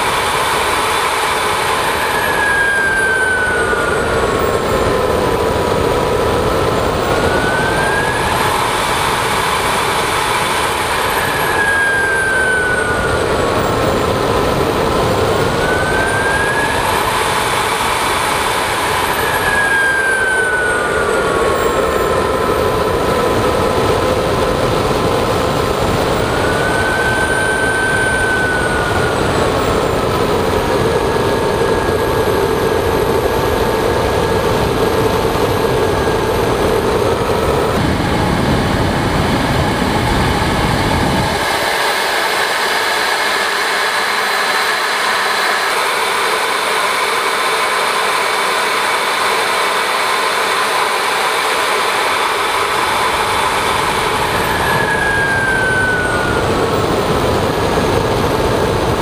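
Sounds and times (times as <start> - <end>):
wind rushing on microphone: 0.0 - 46.3, 52.5 - 59.0
jet engine whine: 0.0 - 59.0.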